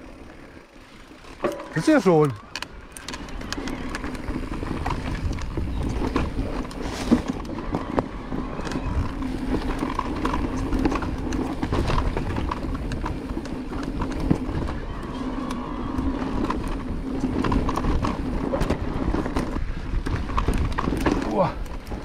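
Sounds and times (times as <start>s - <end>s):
bike chain and frame rattling: 0.0s - 22.0s
tyres rolling on dirt: 0.0s - 22.0s
wind rumble on microphone: 2.5s - 22.0s.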